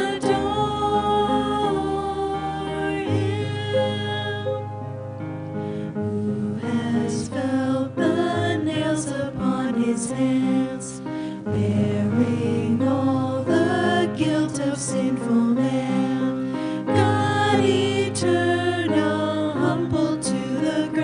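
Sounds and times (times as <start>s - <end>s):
people singing worship song: 0.0s - 4.8s, 5.6s - 21.0s.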